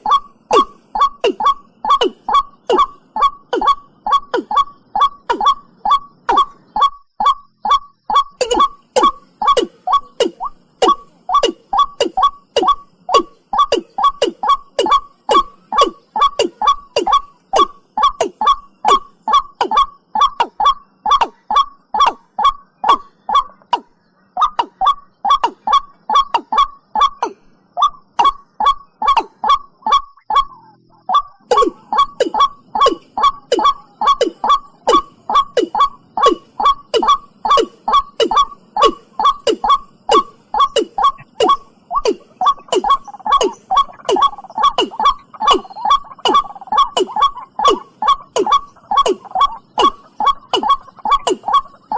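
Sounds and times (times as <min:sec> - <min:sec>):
bird calling short hooked notes: 0:00.0 - 0:51.9.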